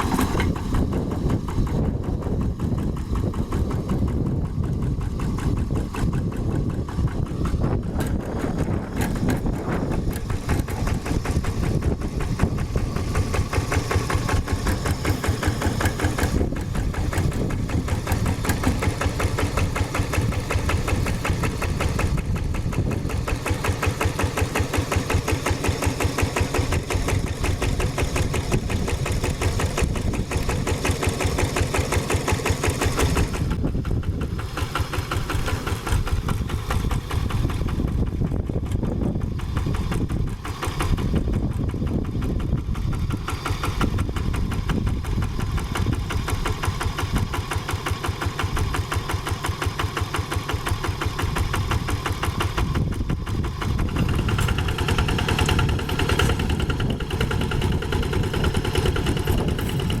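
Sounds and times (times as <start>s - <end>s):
diesel engine knocking: 0.0s - 60.0s.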